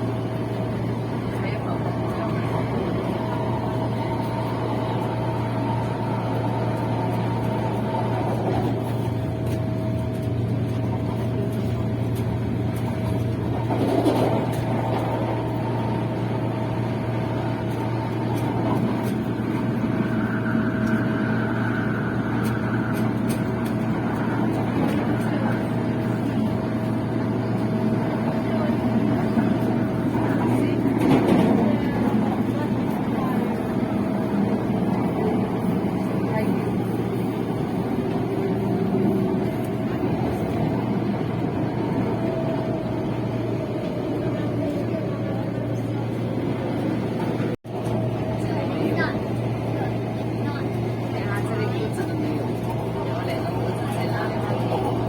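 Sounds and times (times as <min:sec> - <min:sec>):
train rumbling inside carriage: 0:00.0 - 0:55.0.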